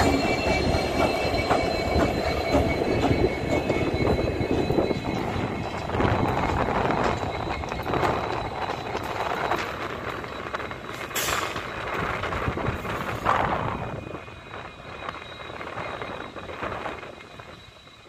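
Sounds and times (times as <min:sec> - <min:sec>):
diesel train passing: 0:00.0 - 0:18.0.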